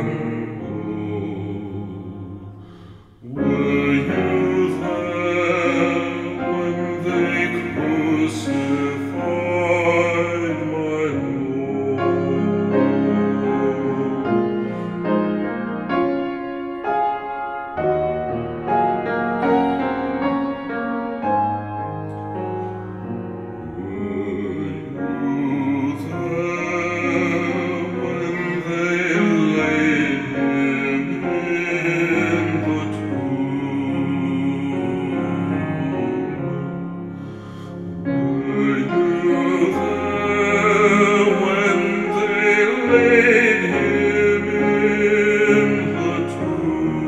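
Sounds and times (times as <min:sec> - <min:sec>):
slow piano music: 0:00.0 - 0:47.0.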